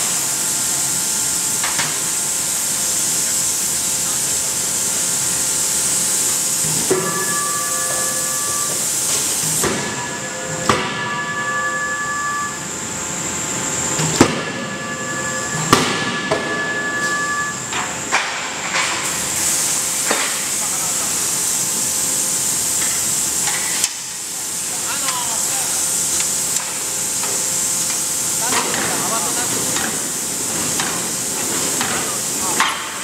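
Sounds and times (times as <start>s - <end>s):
high machinery whine: 0.0s - 33.0s
steady machinery hiss: 0.0s - 33.0s.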